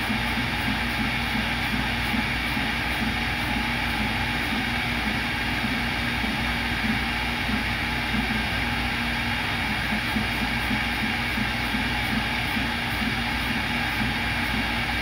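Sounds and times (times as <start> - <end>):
machine whir: 0.0 - 15.0.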